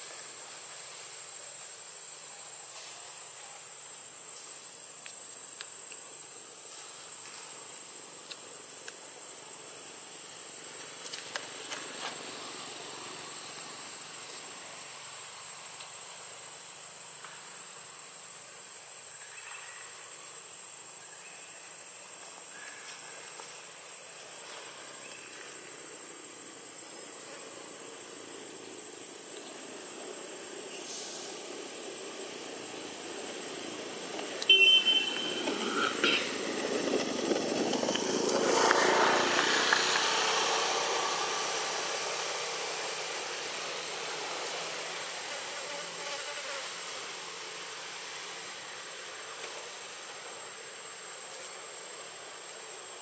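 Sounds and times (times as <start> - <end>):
forest ambience hiss: 0.0 - 53.0.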